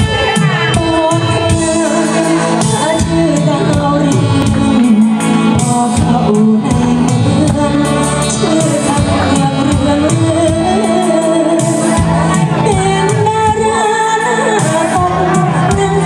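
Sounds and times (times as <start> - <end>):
amplified backing music with beat: 0.0 - 16.0
woman singing through microphone: 0.0 - 16.0.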